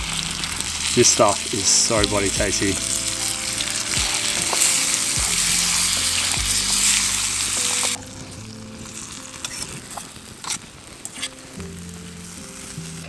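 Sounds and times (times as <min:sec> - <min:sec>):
stir-fry sizzling in a frying pan: 0:00.0 - 0:13.0.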